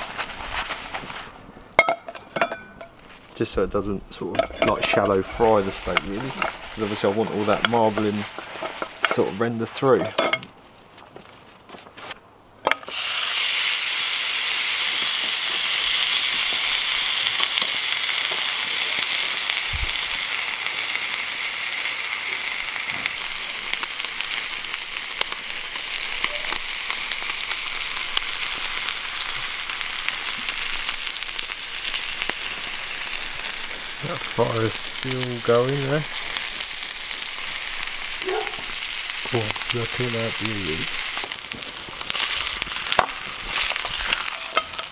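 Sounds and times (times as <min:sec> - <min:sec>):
steak sizzling in a frying pan: 0:04.3 - 0:10.3, 0:12.8 - 0:44.9.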